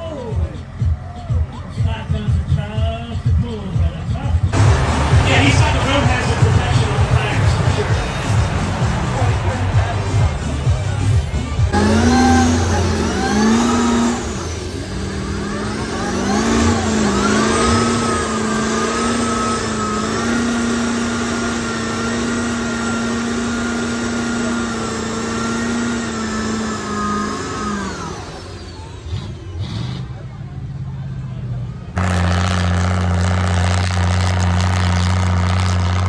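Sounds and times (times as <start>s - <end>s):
diesel truck engine revving: 0.0s - 36.0s.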